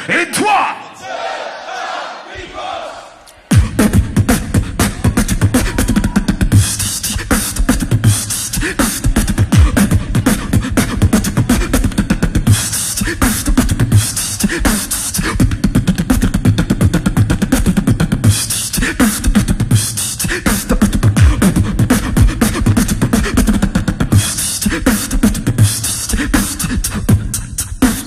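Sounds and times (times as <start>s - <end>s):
beatboxing beat: 3.5s - 28.0s.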